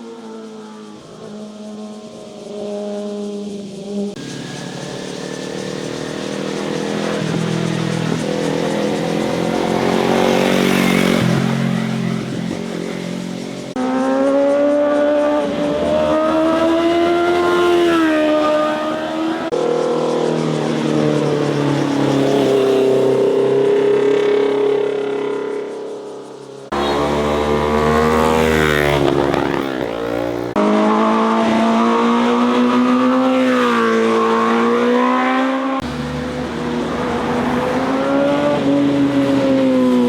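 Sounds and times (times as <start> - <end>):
motorcycles passing and revving: 0.0 - 40.0.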